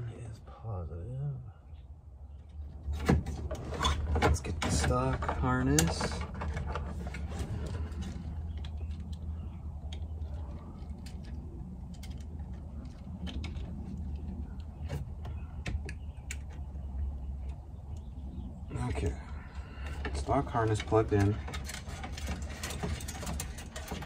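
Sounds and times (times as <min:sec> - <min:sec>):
wires rustling: 0:03.2 - 0:24.0.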